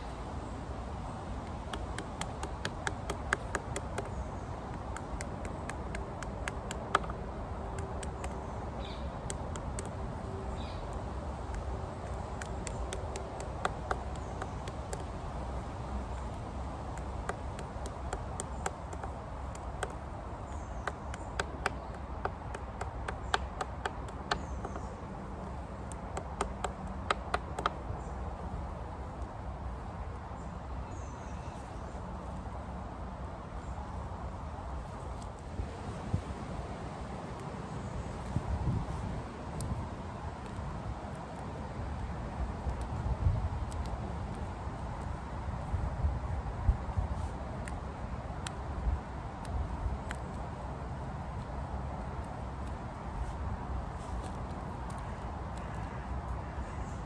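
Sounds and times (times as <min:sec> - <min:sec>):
walking stick tapping stems: 0:01.3 - 0:29.3, 0:34.8 - 0:57.0.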